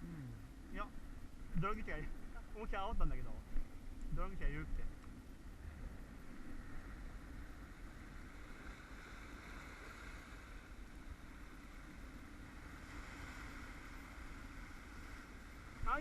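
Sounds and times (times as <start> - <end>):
wind rumbling on microphone: 0.0 - 16.0
sea surf on rocky shore: 0.7 - 16.0.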